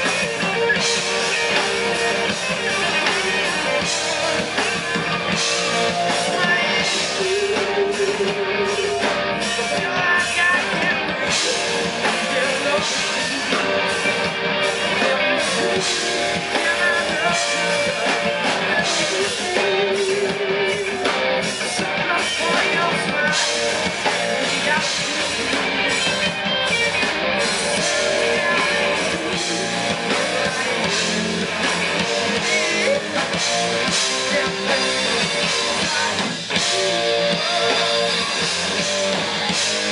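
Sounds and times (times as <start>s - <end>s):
bass guitar: 0.0s - 39.9s
drum kit: 0.0s - 39.9s
electric guitars: 0.0s - 39.9s
lead vocal singing: 0.0s - 39.9s.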